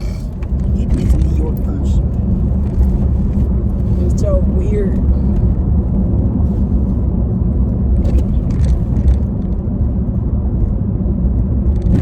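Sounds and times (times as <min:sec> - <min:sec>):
road rumble inside moving car: 0:00.0 - 0:12.0.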